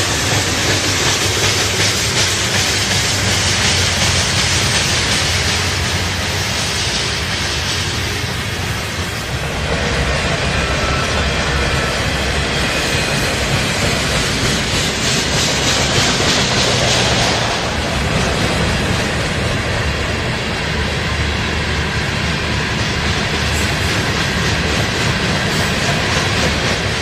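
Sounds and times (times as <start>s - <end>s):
freight train wheels on rails: 0.0s - 27.0s.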